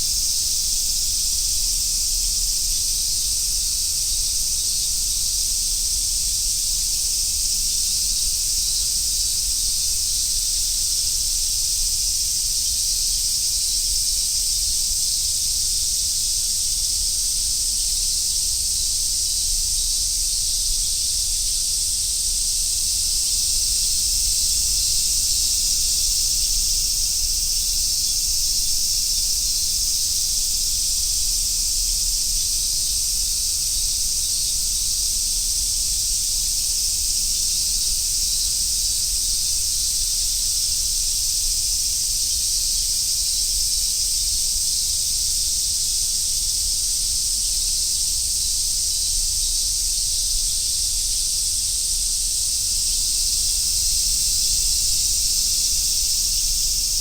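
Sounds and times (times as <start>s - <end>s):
cicadas chorus: 0.0s - 57.0s.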